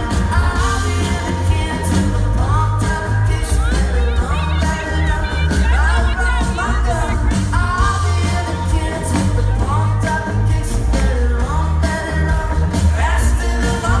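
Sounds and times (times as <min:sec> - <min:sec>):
live pop-rock band: 0:00.0 - 0:14.0
person singing: 0:00.0 - 0:14.0.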